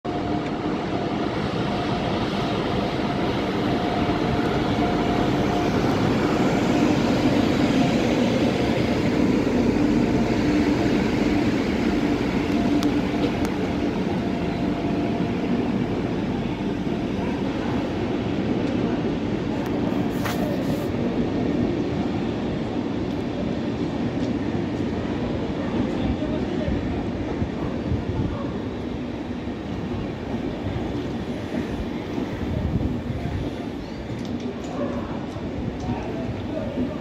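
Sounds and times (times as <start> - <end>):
train wheels rumbling on track: 0.1 - 37.0.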